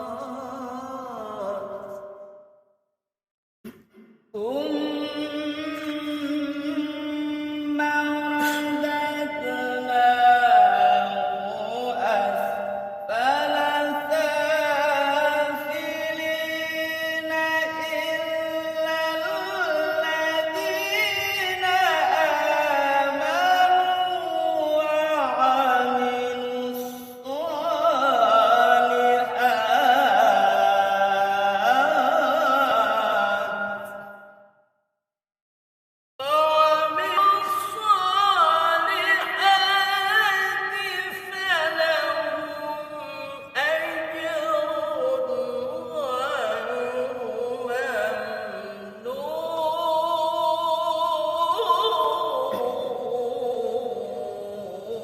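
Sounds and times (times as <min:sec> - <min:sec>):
man reciting melodically: 0:00.0 - 0:02.1, 0:03.9 - 0:34.1, 0:36.2 - 0:55.0.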